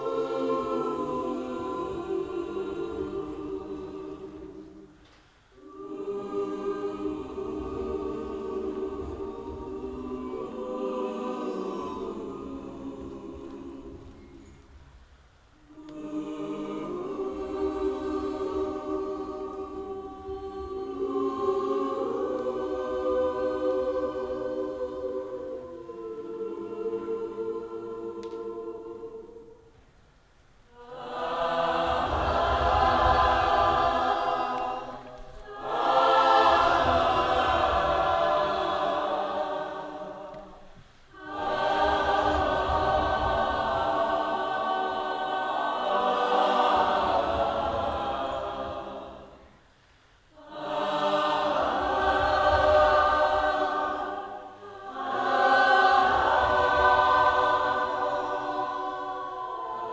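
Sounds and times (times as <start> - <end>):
choir singing held chords: 0.0 - 59.9.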